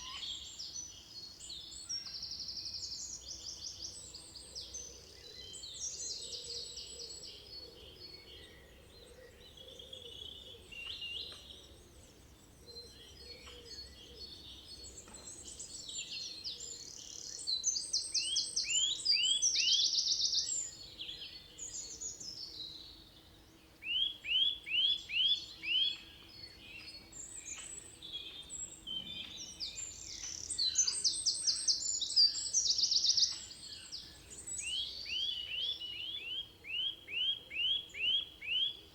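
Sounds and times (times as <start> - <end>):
forest birds singing: 0.0 - 38.9.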